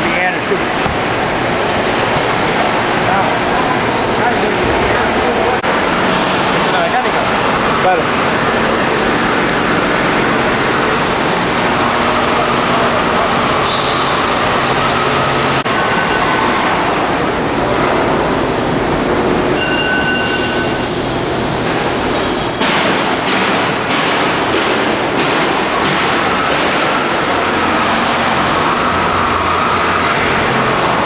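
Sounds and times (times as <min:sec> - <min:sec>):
factory machinery noise: 0:00.0 - 0:31.0.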